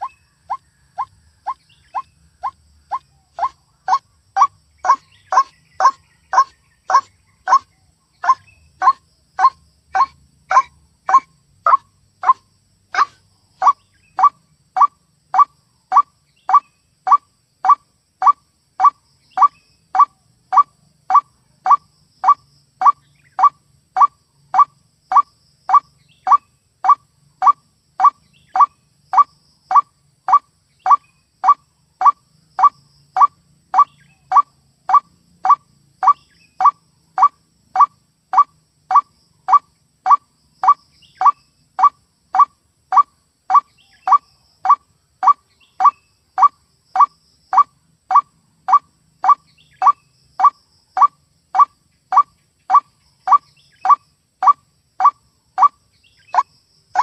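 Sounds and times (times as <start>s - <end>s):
waterhen calls: 0.0s - 55.7s.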